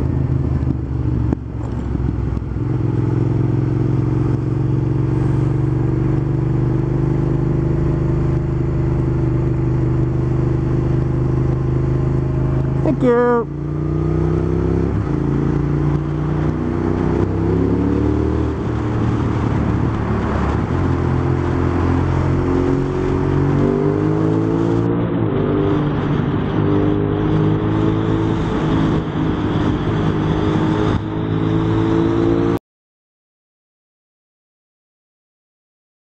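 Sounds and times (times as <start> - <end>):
motorcycle engine accelerating: 0.0 - 32.6.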